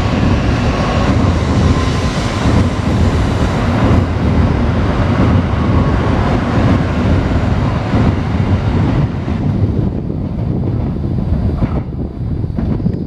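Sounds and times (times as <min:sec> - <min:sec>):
high-speed train rushing past: 0:00.0 - 0:13.0.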